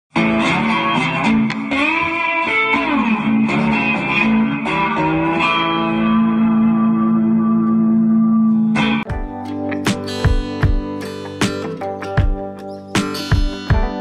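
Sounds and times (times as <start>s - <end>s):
electric guitar melody: 0.1s - 14.0s.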